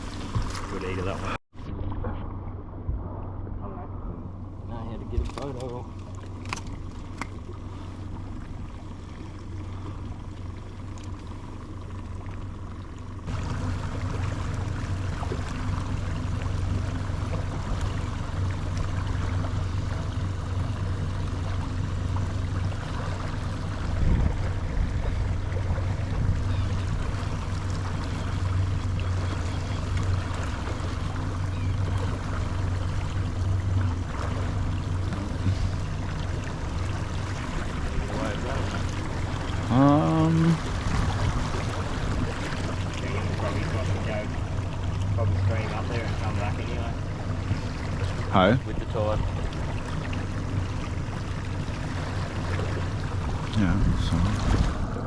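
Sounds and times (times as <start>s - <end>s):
boat motor humming: 0.0s - 55.0s
water rushing: 0.0s - 55.0s.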